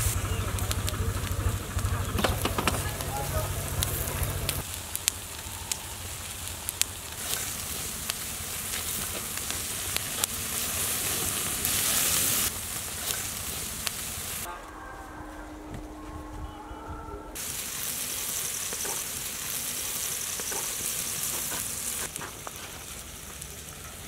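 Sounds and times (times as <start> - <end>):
chicken sizzling on charcoal grill: 0.0 - 14.5, 17.4 - 24.0
sharp crackles: 0.0 - 16.7, 17.3 - 24.0.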